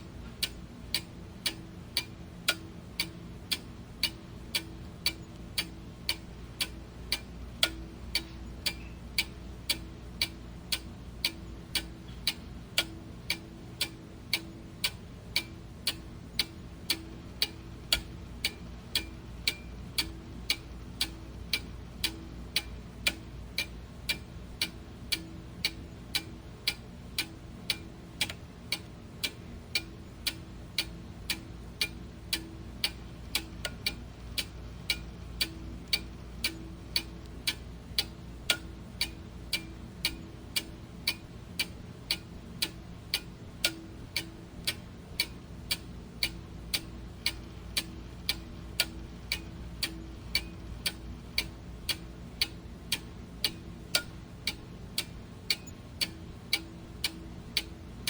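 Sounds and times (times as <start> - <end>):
clock ticking: 0.3 - 58.0.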